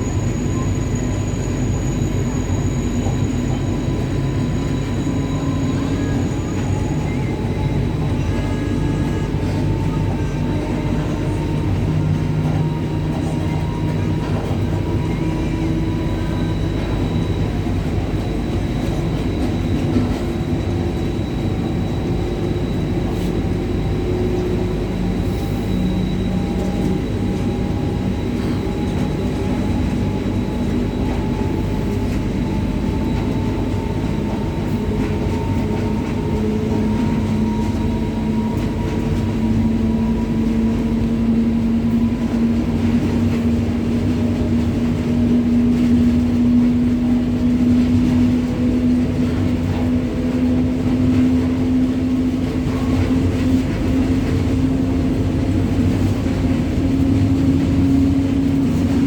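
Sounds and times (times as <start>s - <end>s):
electric locomotive rumbling and humming: 0.0s - 59.0s.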